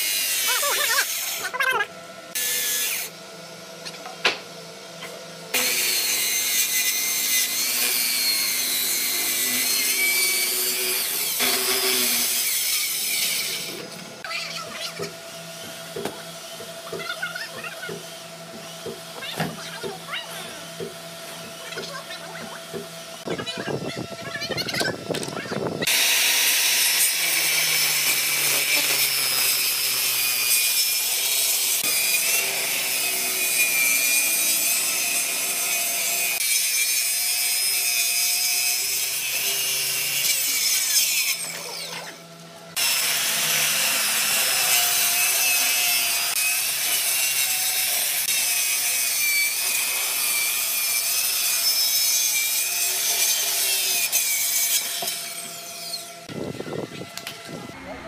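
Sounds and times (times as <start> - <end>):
circular saw cutting wood: 0.0 - 3.2, 5.5 - 23.4, 25.8 - 58.0.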